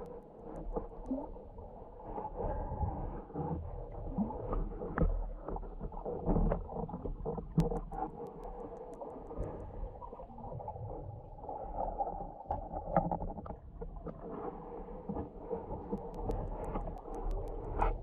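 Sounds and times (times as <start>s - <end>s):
low underwater rumble: 0.0s - 18.0s.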